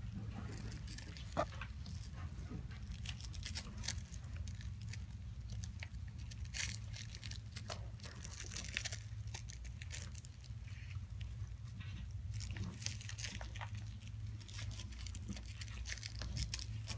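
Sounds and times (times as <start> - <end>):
cat chewing and clawing toy: 0.0 - 16.9
steady low hum: 0.0 - 16.9.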